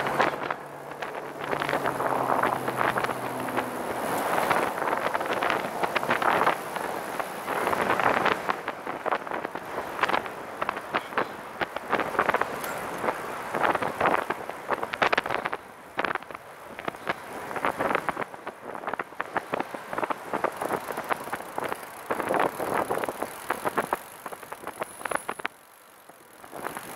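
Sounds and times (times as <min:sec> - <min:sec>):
wind noise: 0:00.0 - 0:25.5, 0:26.4 - 0:26.9
trike rattling over pavement: 0:00.0 - 0:26.9.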